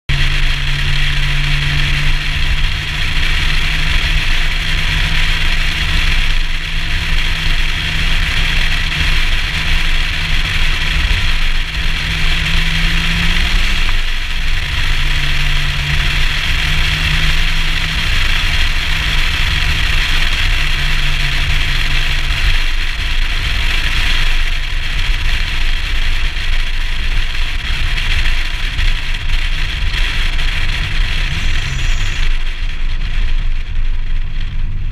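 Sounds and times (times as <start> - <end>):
car engine: 0.1 - 34.9
loud rushing wind: 0.1 - 34.9
road noise: 0.1 - 34.9.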